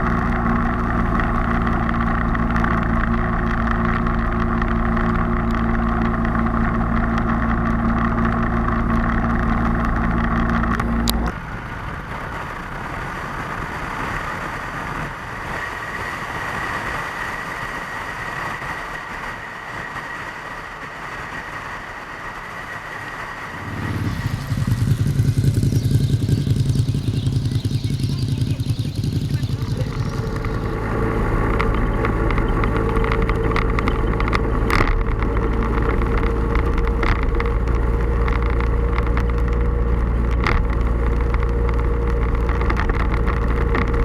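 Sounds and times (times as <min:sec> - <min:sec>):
motorcycle engine running: 0:00.0 - 0:44.0
rushing noise with high whine: 0:00.0 - 0:44.0.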